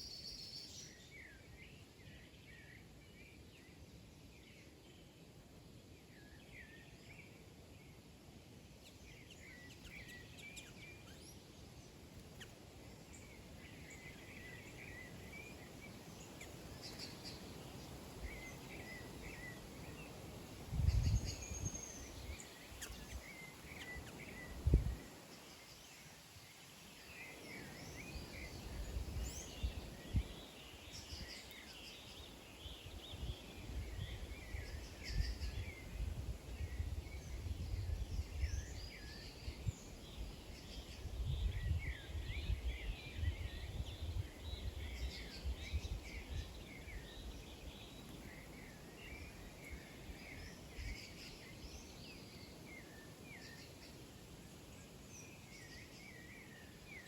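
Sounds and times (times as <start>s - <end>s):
small birds chirping: 0.0s - 8.1s, 8.7s - 57.0s.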